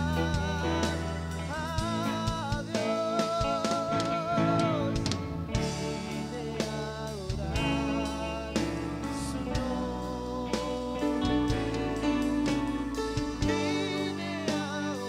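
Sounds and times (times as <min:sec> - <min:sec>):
live band playing worship song: 0:00.0 - 0:15.0.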